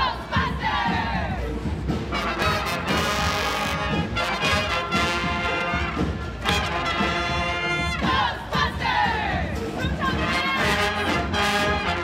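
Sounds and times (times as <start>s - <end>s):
brass band playing: 1.4s - 8.8s, 9.5s - 12.0s.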